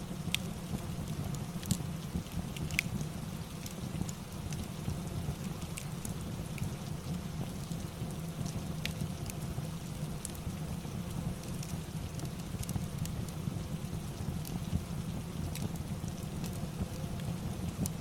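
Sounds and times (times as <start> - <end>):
steady rain: 0.0 - 18.0
fire crackling: 0.1 - 18.0.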